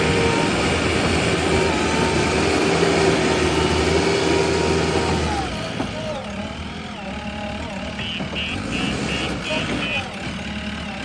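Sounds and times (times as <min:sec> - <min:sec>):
diesel engine running hard: 0:00.0 - 0:11.0.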